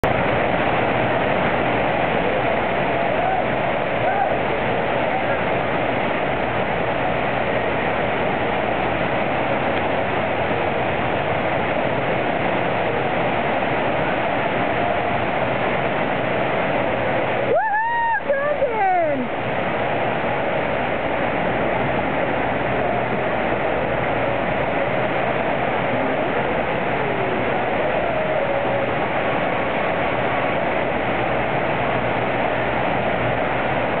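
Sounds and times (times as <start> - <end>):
rushing water over surface: 0.0 - 34.0.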